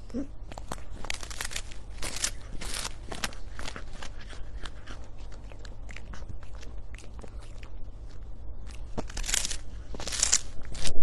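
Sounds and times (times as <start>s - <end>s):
cat crunching hard treat: 0.5s - 11.0s.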